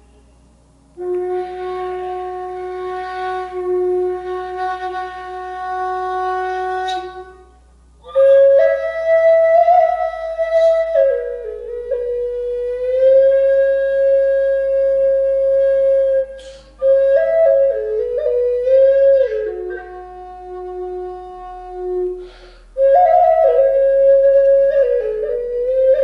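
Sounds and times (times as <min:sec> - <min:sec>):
wooden flute long notes: 0:00.9 - 0:26.0.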